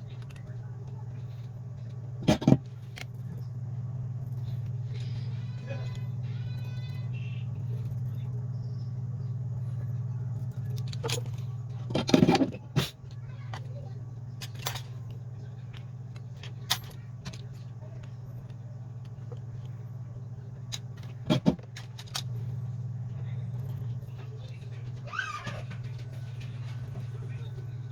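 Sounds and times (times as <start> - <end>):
small parts clicking and clattering: 0.0 - 8.5, 9.4 - 27.9
low hum: 0.0 - 27.9.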